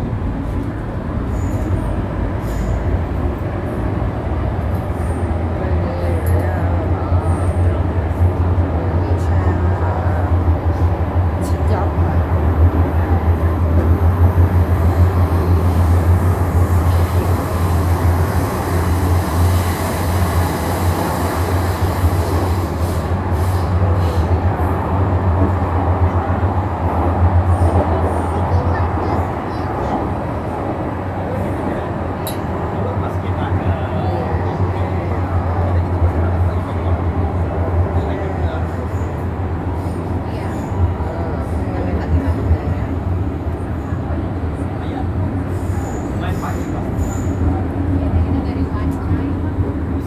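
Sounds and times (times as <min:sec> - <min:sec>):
train cabin rumble: 0:00.0 - 0:50.0.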